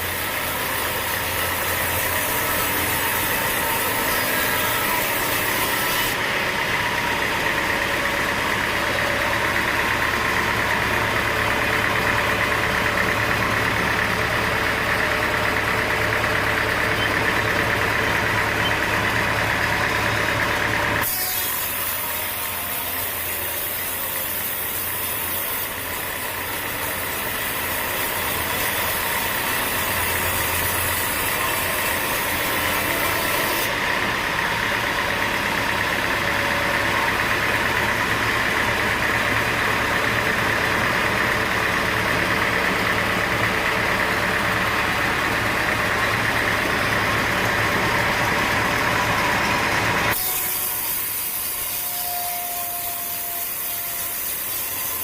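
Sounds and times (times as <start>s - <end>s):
machine engine running: 0.0s - 21.2s, 21.8s - 50.9s.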